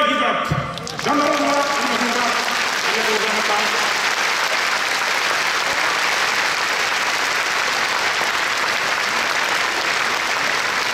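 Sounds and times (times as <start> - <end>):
audience applauding: 0.7 - 10.9.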